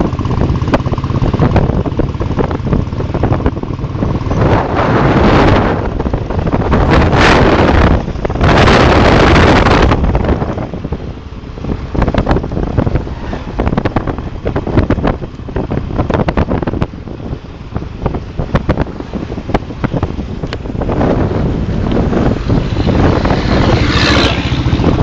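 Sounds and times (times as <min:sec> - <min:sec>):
motorcycle low rumble: 0:00.0 - 0:25.0
wind buffeting microphone: 0:00.0 - 0:25.0.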